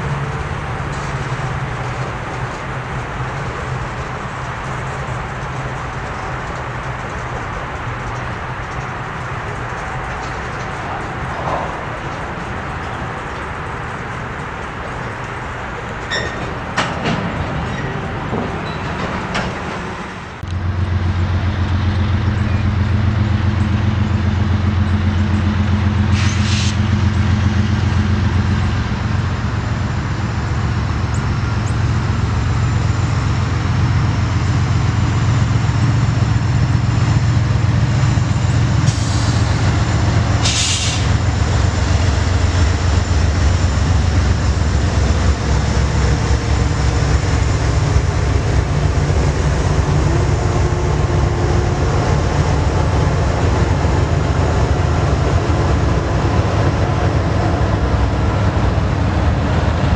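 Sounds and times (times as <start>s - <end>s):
diesel locomotive engine drone: 0.0s - 59.9s
freight cars rolling on steel wheels: 0.0s - 59.9s.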